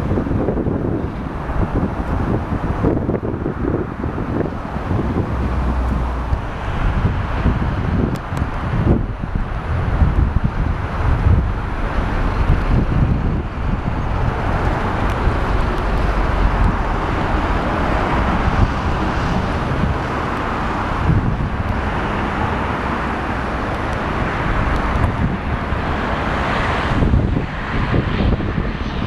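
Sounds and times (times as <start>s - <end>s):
turboprop plane engine drone: 0.0s - 29.0s
wind buffeting microphone: 0.0s - 29.0s.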